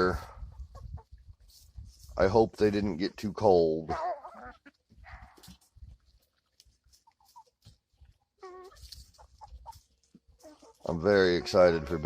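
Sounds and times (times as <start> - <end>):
chickens clucking faintly: 0.0 - 12.0.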